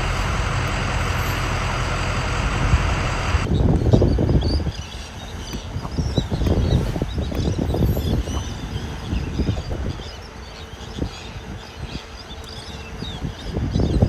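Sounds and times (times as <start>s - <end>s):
birds chirping: 0.0s - 14.0s
wind buffeting microphone: 0.0s - 14.0s.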